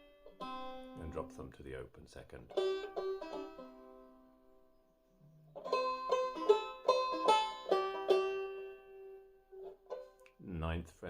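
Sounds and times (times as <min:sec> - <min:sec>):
banjo plucked notes: 0:00.0 - 0:10.6.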